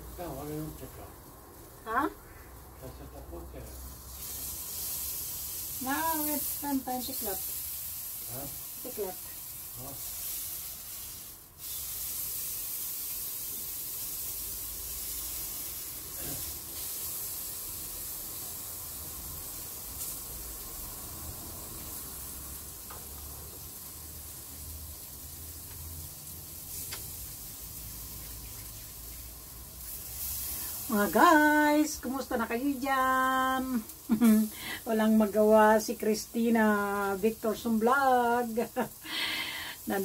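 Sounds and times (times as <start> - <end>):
food sizzling on a grill: 0.0 - 40.0.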